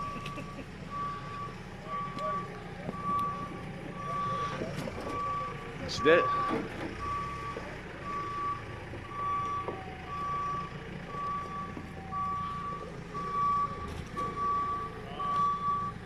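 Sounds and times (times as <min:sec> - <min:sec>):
vehicle reversing alarm beeping: 0:00.0 - 0:16.0.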